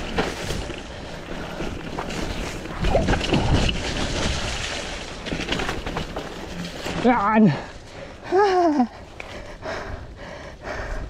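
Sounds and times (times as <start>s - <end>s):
mountain bike rumbling and rattling: 0.0s - 11.0s.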